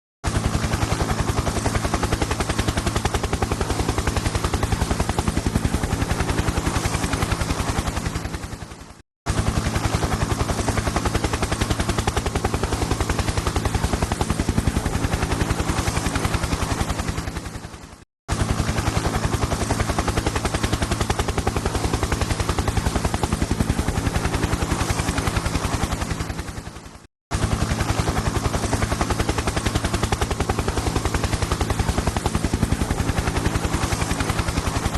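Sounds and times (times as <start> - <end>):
helicopter rotor chopping: 0.2 - 34.9.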